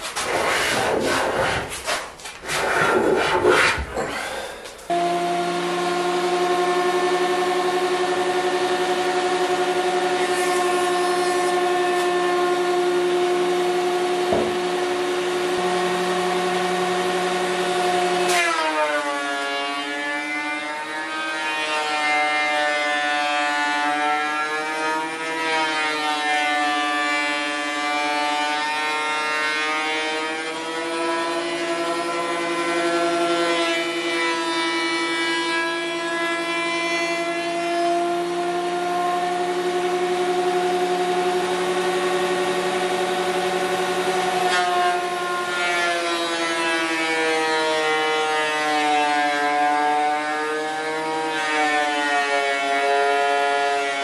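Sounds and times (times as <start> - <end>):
planer cutting board: 0.0 - 54.0
thickness planer whining: 0.0 - 54.0.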